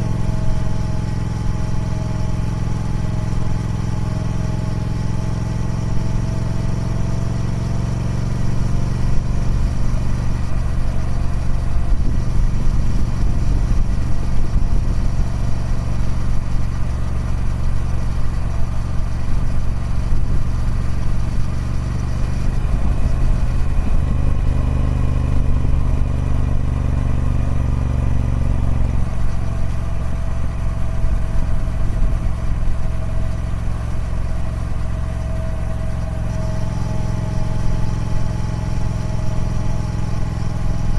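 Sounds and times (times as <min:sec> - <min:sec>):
motorcycle engine drone: 0:00.0 - 0:40.9.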